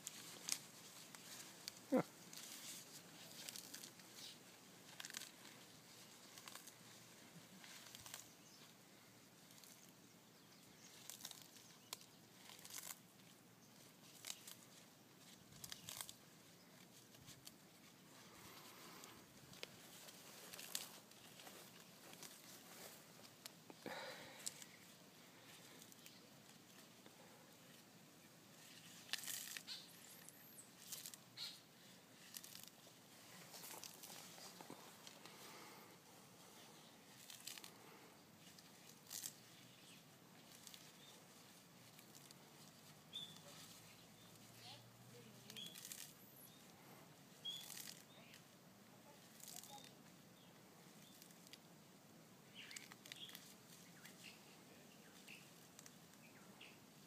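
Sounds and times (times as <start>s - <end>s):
leaves rustling: 0.0s - 57.0s
tortoise crunching leaves: 0.0s - 57.0s.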